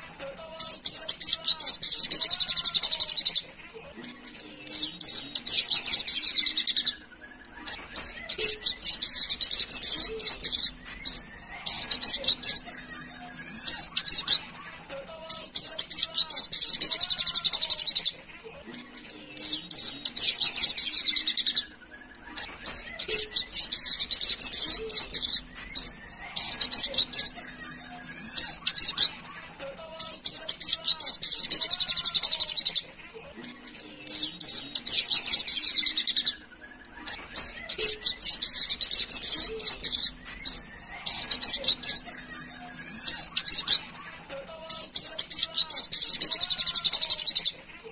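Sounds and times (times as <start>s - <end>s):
bird twittering song: 0.0s - 14.6s, 15.2s - 18.2s, 18.9s - 29.2s, 30.0s - 44.0s, 44.6s - 47.6s.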